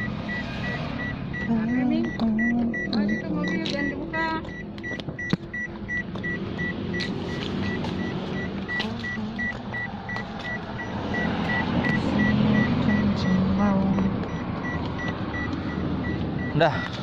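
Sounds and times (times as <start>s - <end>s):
electronic warning beeps: 0.0s - 17.0s
low vehicle rumble: 0.0s - 17.0s.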